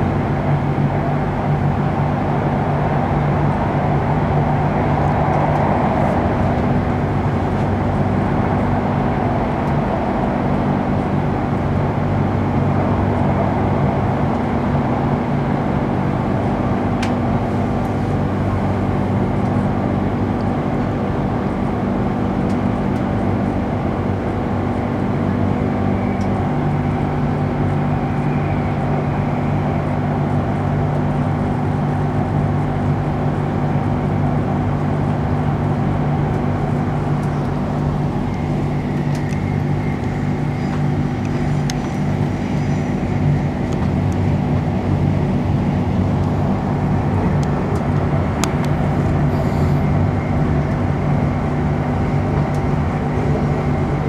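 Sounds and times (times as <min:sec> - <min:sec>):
train interior running hum: 0:00.0 - 0:54.0.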